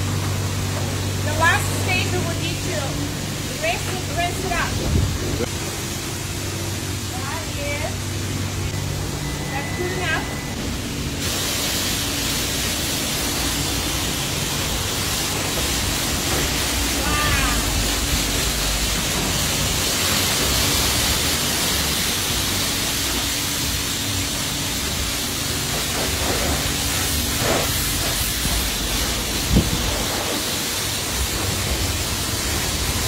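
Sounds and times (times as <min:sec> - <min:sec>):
high-pressure water spray hissing: 0:00.0 - 0:33.0.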